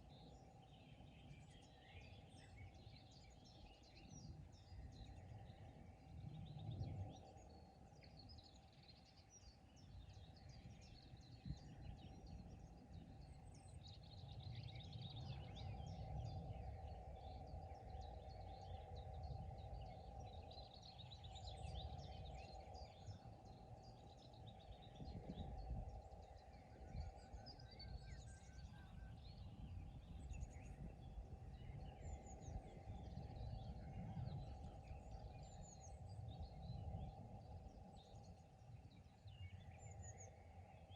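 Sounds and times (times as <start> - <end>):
small birds singing and chirping: 0.0 - 40.9.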